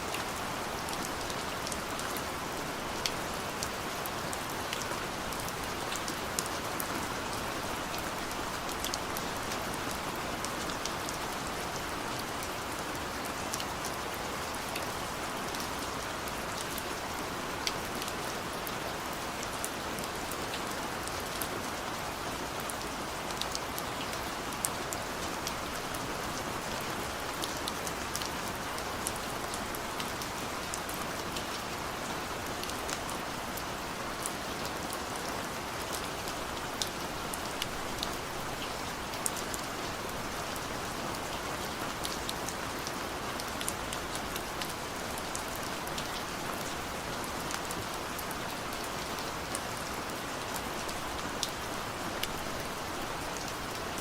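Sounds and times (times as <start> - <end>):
steady rain hiss: 0.0 - 54.0
raindrops ticking on a surface: 0.1 - 54.0.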